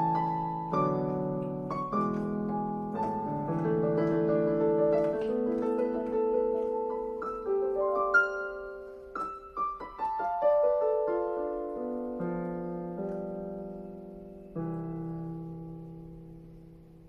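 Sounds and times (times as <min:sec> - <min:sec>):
piano playing slow melody: 0:00.0 - 0:17.0.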